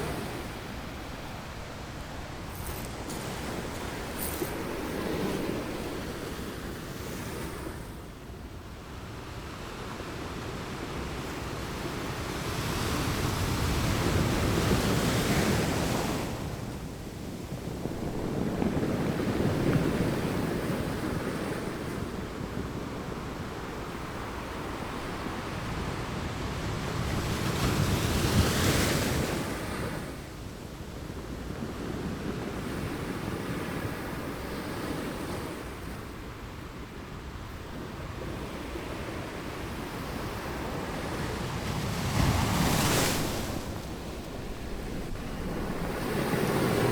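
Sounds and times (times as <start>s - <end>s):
ocean waves breaking on beach: 0.0s - 46.9s
wind on microphone: 0.0s - 46.9s.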